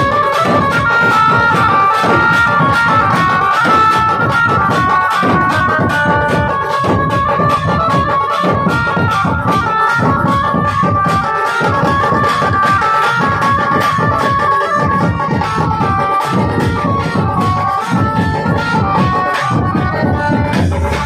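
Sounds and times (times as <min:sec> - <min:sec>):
fast dense drumming: 0:00.0 - 0:21.0
high reedy melody: 0:00.0 - 0:21.0.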